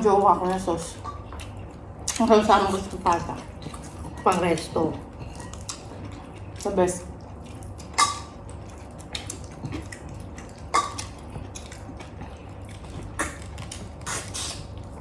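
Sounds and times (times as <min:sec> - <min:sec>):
chewing: 0:01.0 - 0:15.0.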